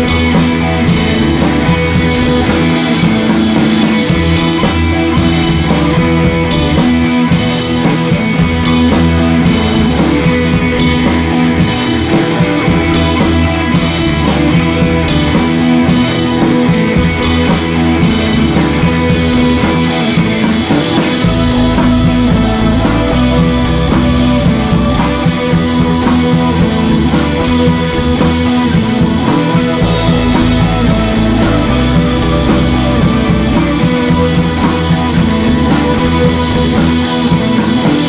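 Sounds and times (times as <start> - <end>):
rock music with guitar and drums: 0.0 - 38.0.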